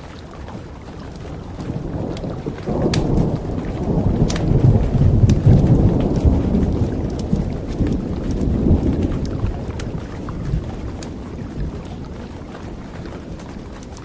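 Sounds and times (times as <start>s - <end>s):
campfire crackling: 0.0s - 14.0s
steady rain: 0.0s - 14.0s
rolling thunder: 1.4s - 14.0s.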